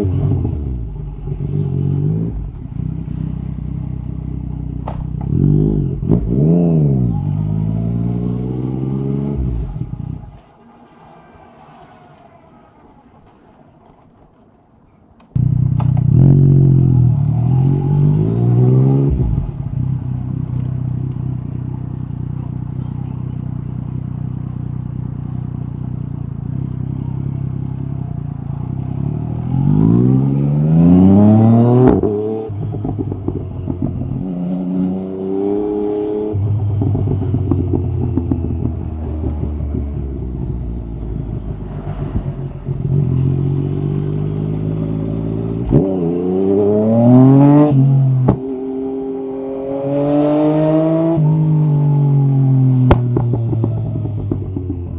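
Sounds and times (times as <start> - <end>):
motorcycle engine revving: 0.0 - 13.9, 15.4 - 54.9.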